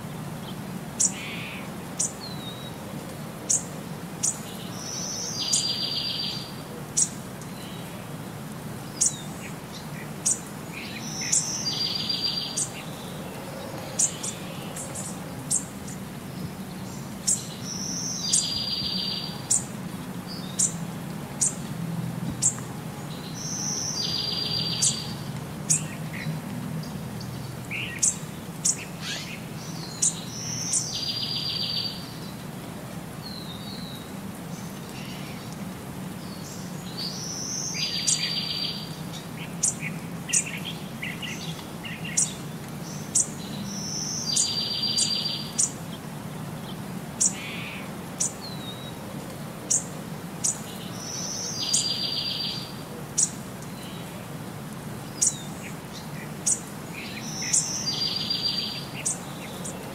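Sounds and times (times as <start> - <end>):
low background noise: 0.0 - 59.9
birds chirping: 3.5 - 21.7, 22.3 - 32.4, 33.2 - 59.9.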